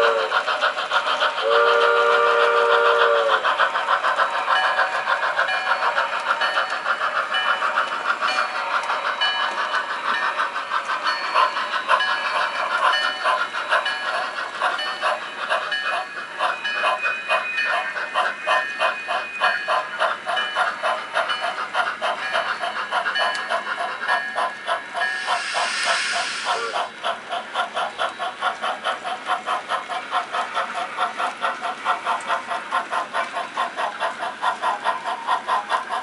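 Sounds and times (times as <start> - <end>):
model steam locomotive chuffing: 0.0 - 36.0.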